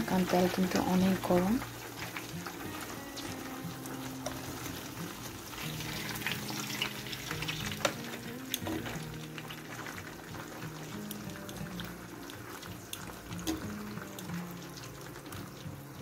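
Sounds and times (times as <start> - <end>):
chicken frying in hot oil: 0.0 - 16.0
soft background music: 0.0 - 16.0.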